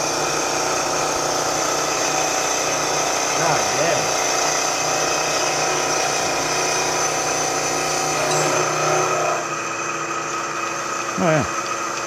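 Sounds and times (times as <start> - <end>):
low hum of cutting metal: 0.0 - 12.0
milling machine running: 0.0 - 12.0.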